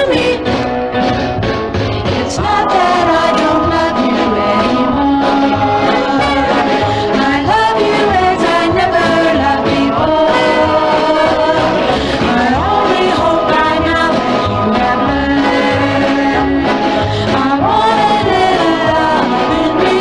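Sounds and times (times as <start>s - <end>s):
vocal group singing in harmony: 0.0s - 0.8s, 1.8s - 20.0s
band with steady beat: 0.0s - 20.0s.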